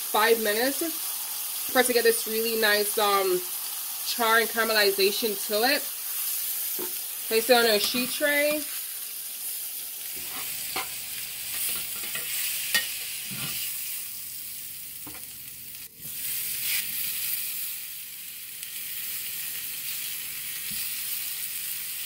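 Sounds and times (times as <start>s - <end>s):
oil sizzling in pan: 0.0s - 22.0s.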